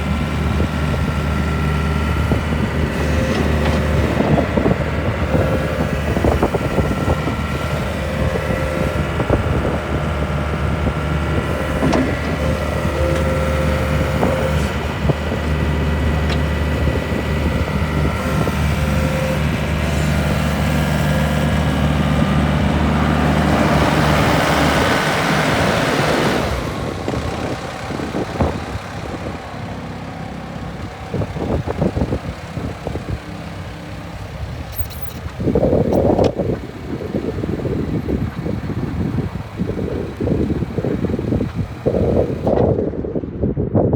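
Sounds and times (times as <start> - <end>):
loader engine running: 0.0 - 43.8.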